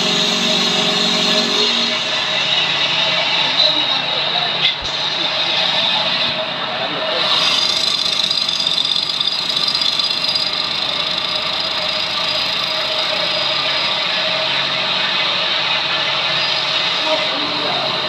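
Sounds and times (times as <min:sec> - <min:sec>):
cnc router whining: 0:00.0 - 0:18.0.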